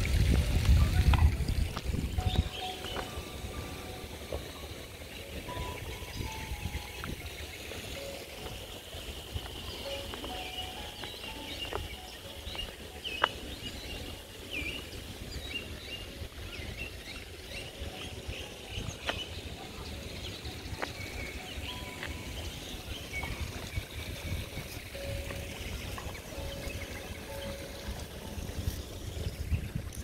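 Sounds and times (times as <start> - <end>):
small birds chirping: 1.6 - 30.0.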